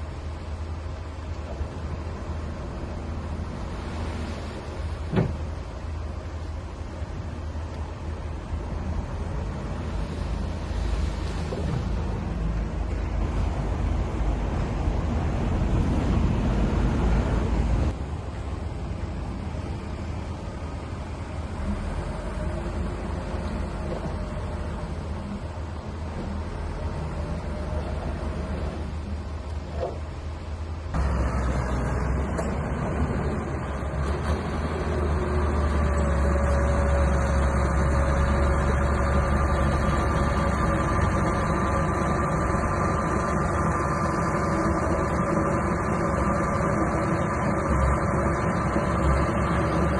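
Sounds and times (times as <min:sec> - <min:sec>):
bulldozer engine rumbling: 0:00.0 - 0:49.9.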